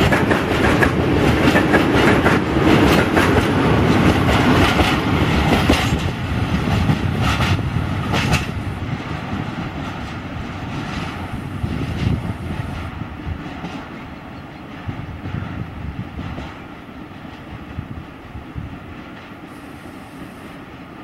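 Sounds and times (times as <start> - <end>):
freight train rolling on rails: 0.0 - 21.0.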